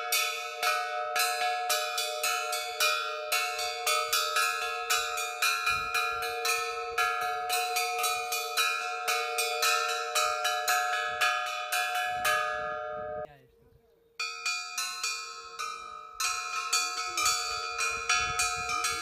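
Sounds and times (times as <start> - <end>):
bells ringing: 0.0 - 13.3, 14.2 - 19.0.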